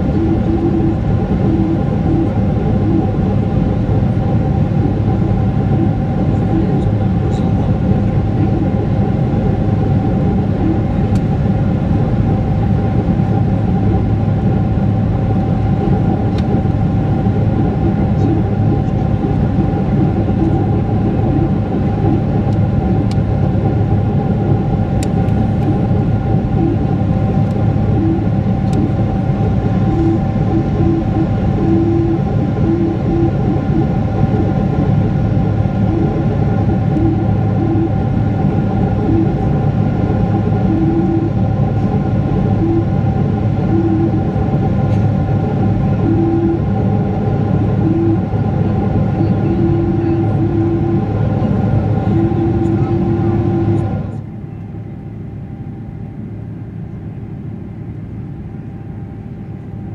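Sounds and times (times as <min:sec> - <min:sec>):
jet engine cabin rush: 0:00.0 - 0:55.2.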